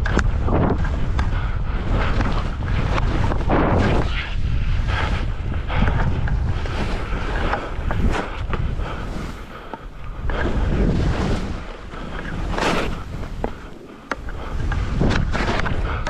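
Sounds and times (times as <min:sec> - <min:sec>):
wind buffeting microphone: 0:00.0 - 0:16.0
skis scraping on snow: 0:00.1 - 0:16.0.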